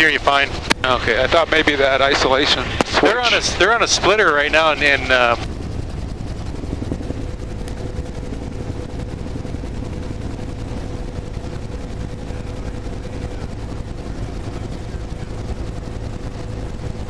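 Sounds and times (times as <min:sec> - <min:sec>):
faint steady whine: 0:00.0 - 0:17.0
helicopter rotor and engine drone: 0:00.0 - 0:17.0.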